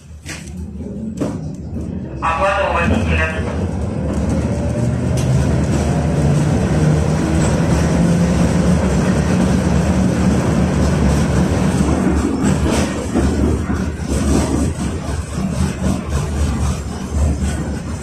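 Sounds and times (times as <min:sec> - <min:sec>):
tram wheels on rails: 0:00.0 - 0:18.0.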